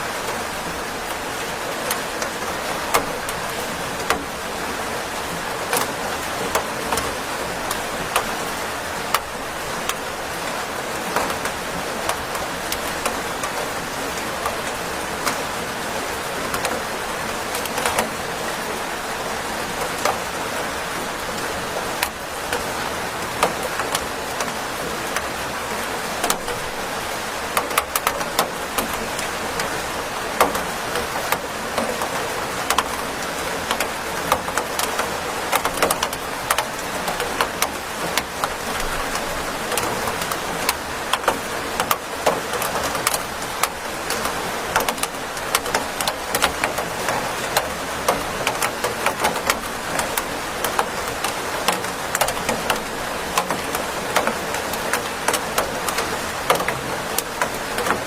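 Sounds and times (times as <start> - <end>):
rain on hard surface: 0.0 - 58.0.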